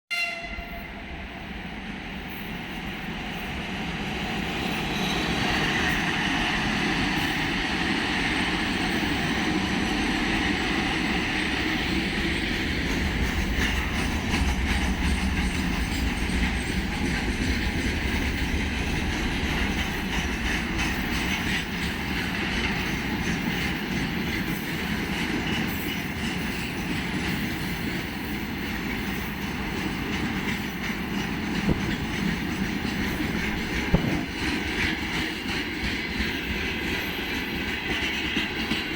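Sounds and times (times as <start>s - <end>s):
freight train wheels clattering: 4.2s - 38.9s.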